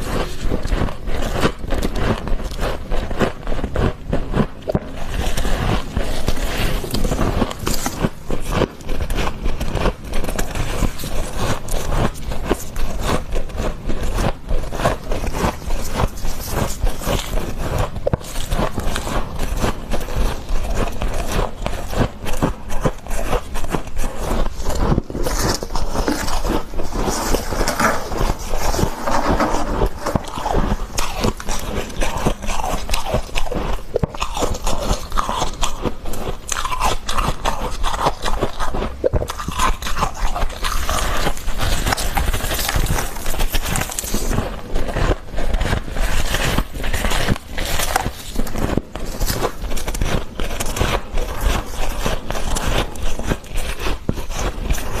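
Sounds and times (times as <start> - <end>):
chewing crunchy frost: 0.0 - 55.0.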